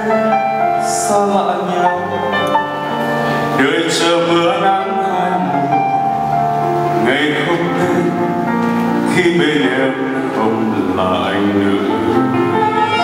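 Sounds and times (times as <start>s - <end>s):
man singing into a microphone: 0.0s - 2.6s, 3.4s - 6.2s, 6.9s - 13.0s
live band playing: 0.0s - 13.0s.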